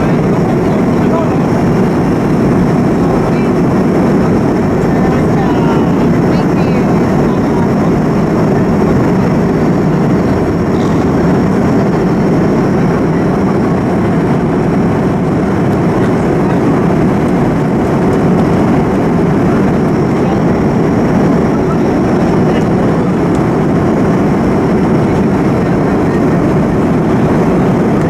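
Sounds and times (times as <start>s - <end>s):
jet engines roaring in flight: 0.0s - 28.0s.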